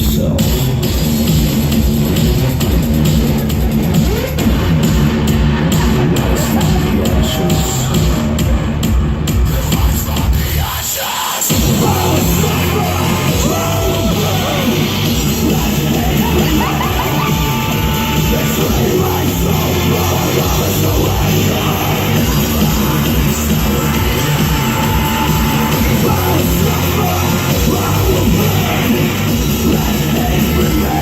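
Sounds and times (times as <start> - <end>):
heavy metal rock music: 0.0 - 31.0.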